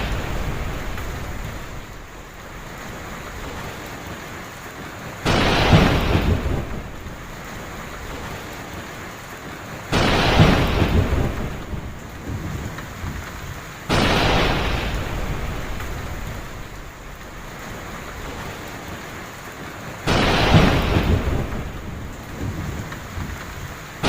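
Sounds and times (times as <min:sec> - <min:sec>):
thunder cracks rumbling: 0:00.0 - 0:03.8, 0:05.2 - 0:08.5, 0:09.9 - 0:19.0, 0:20.0 - 0:24.0
heavy rain: 0:00.0 - 0:24.0.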